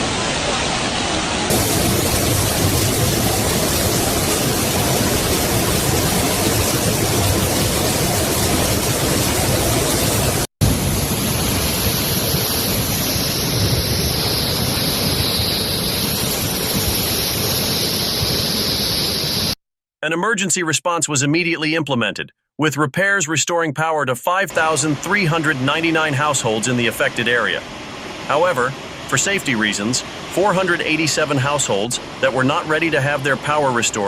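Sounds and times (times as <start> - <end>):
floodwater rushing: 0.0 - 19.6, 24.5 - 34.0.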